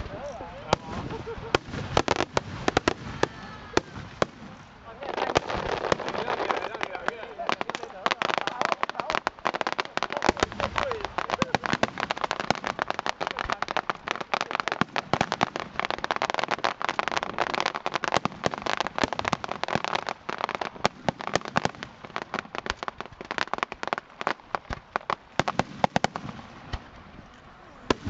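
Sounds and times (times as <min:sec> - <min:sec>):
fireworks bangs and pops: 0:00.0 - 0:28.0.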